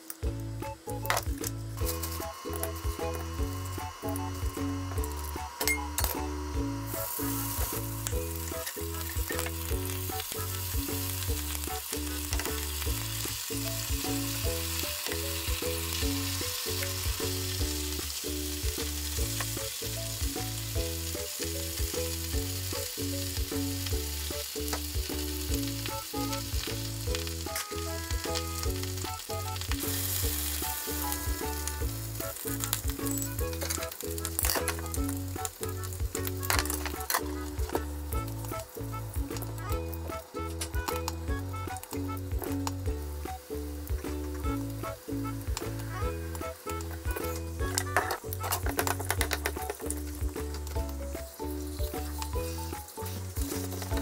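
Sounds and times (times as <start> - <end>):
background music with beat: 0.0 - 54.0
food sizzling in frying pan: 0.0 - 54.0.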